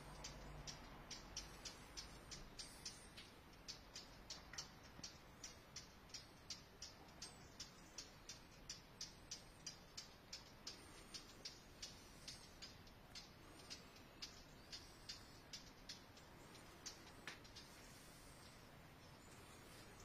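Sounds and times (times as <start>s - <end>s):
faint regular ticking: 0.0s - 20.0s.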